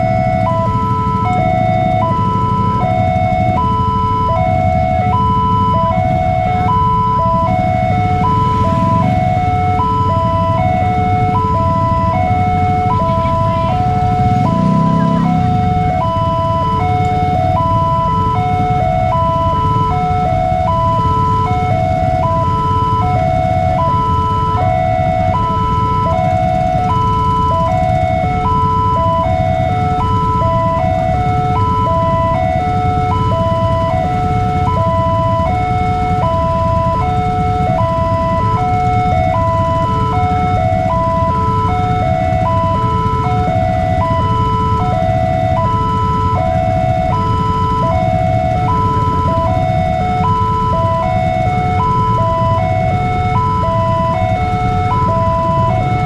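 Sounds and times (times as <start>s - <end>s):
two-tone level crossing alarm: 0.0s - 56.0s.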